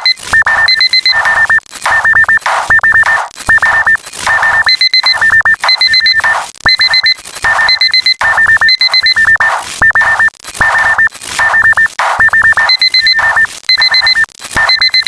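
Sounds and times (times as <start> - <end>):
digital alarm clock beeping: 0.0 - 15.0.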